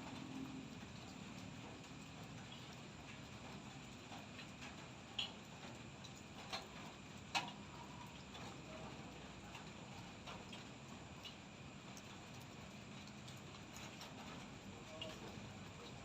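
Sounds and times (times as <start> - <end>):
raindrops ticking on hard surface: 0.0 - 16.0.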